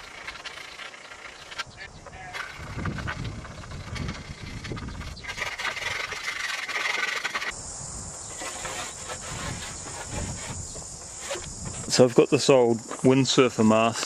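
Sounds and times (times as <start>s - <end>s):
metal rod scraping in tube: 0.0s - 7.5s, 8.3s - 12.2s
crickets chirring: 0.0s - 14.0s.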